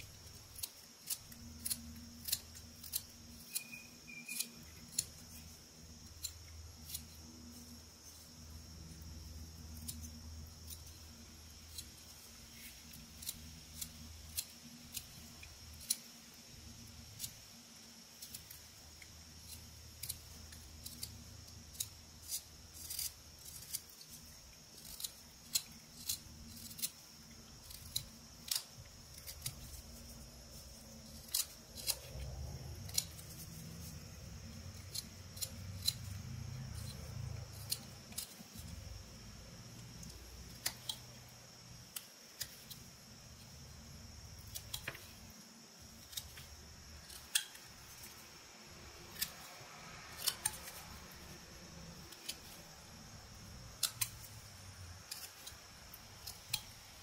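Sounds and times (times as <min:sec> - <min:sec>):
knife whittling wood: 0:00.0 - 0:17.4, 0:18.1 - 0:39.2, 0:48.9 - 0:57.0
faint high hiss: 0:00.0 - 0:57.0.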